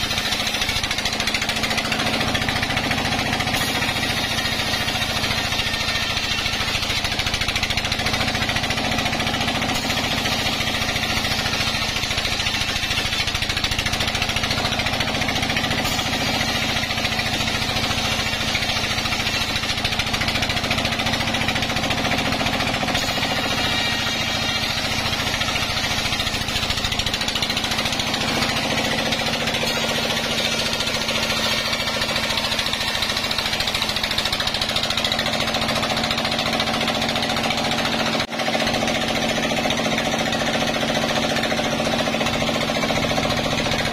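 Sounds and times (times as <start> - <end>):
band sawmill sawing log: 0.0 - 43.9.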